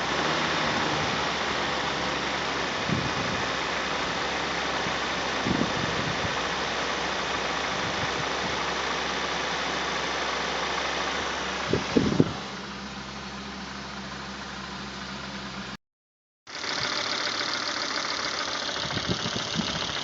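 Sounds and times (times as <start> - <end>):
car engine idling with knocking: 0.0 - 15.7, 16.5 - 20.0.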